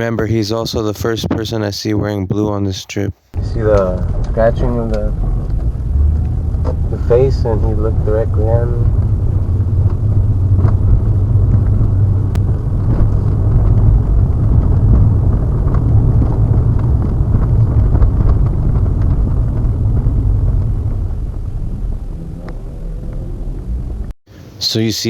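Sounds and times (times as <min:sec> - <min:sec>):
car engine and road noise: 0:03.4 - 0:24.2.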